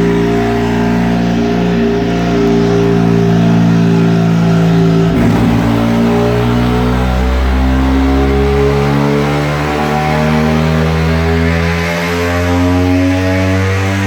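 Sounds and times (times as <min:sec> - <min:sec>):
rotary engine running loud: 0:00.0 - 0:14.0.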